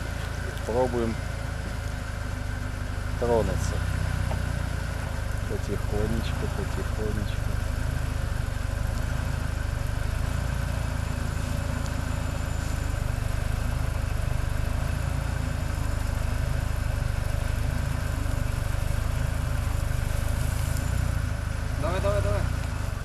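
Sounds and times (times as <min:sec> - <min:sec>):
off-road vehicle engine at low revs: 0:00.0 - 0:23.0.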